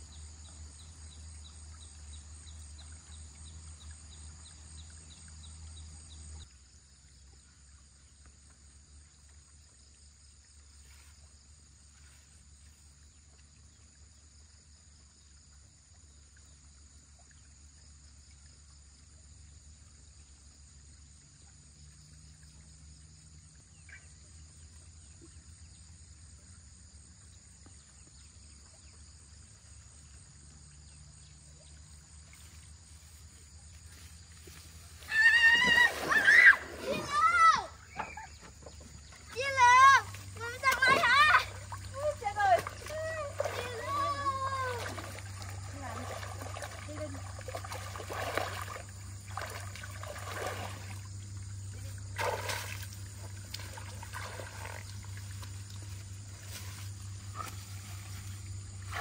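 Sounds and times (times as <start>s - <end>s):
faint insects chirring: 0.0s - 59.0s.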